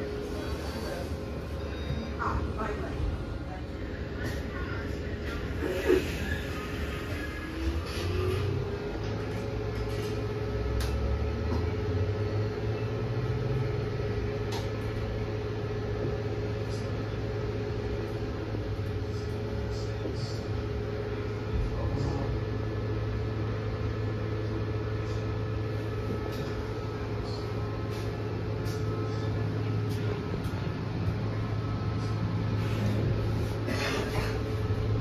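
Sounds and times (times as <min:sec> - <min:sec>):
electric bus hum and whine: 0:00.0 - 0:35.0.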